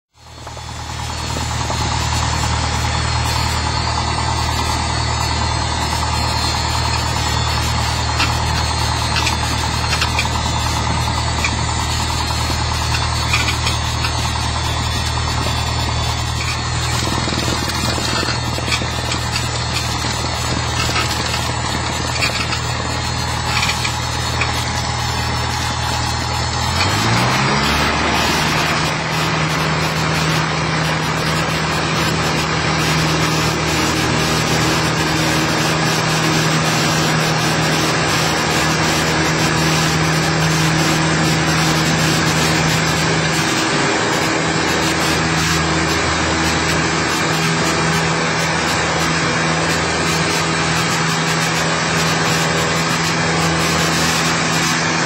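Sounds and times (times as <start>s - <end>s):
airplane engine and propeller: 0.1s - 55.0s.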